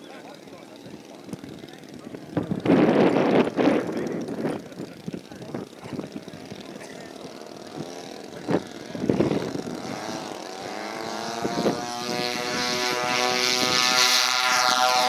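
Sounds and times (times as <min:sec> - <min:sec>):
model plane propeller engines: 0:00.0 - 0:15.0.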